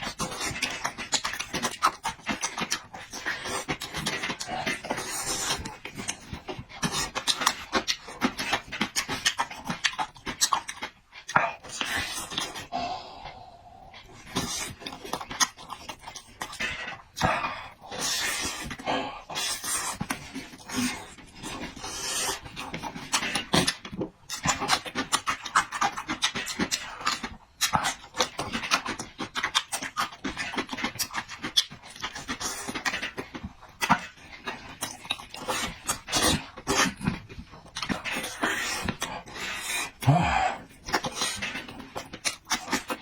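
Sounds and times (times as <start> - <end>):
person chewing noisily: 0.0 - 43.0.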